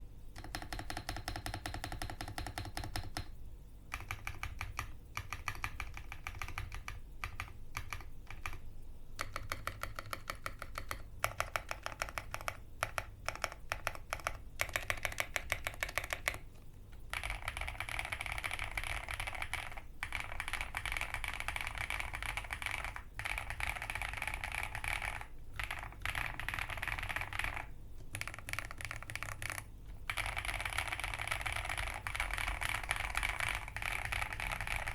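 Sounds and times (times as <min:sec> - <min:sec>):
mechanical keyboard typing: 0:00.3 - 0:34.9.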